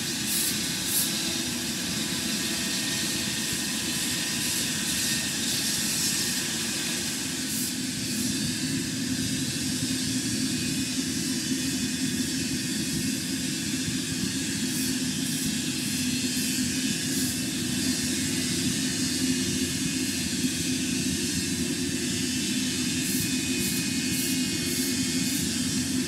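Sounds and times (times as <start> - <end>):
lathe drone: 0.0 - 26.0.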